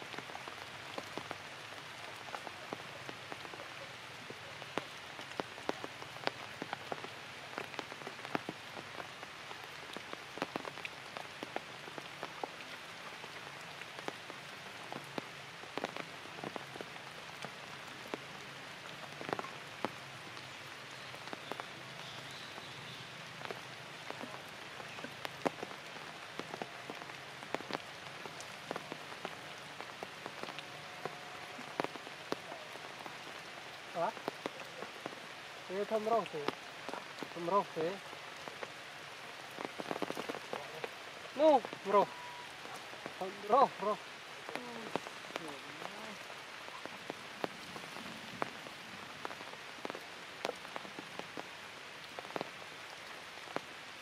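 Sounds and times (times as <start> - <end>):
light rain on leaves: 0.0 - 54.0.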